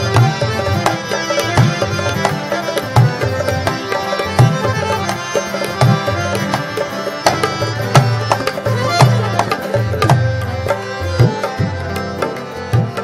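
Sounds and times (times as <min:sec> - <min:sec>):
tabla rhythm: 0:00.0 - 0:13.0.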